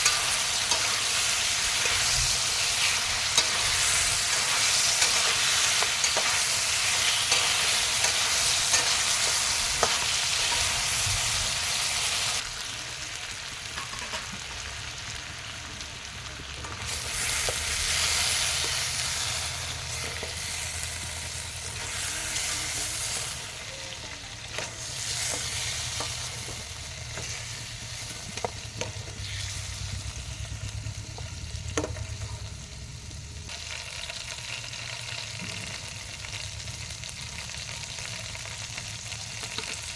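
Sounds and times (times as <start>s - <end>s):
curry sizzling in a pan: 0.0s - 39.9s.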